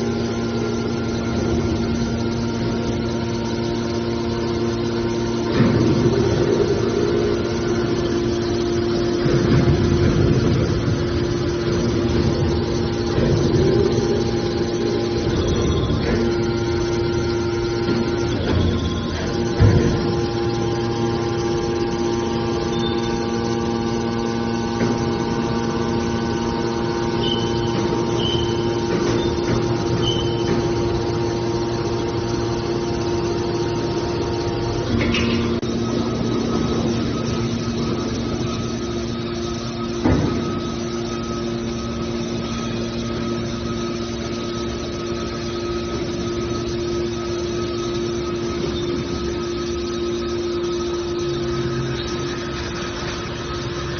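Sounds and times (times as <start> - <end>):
hydraulic baler machine hum: 0.0 - 53.9.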